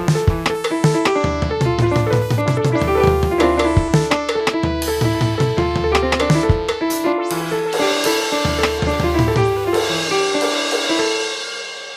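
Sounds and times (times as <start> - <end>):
upbeat instrumental music: 0.0 - 11.9.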